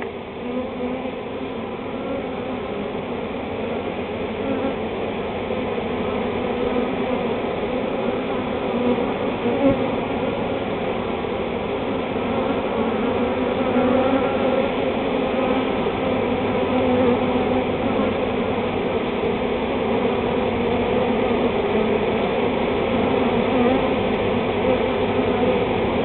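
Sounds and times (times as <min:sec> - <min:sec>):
bee swarm buzzing: 0:00.0 - 0:26.0.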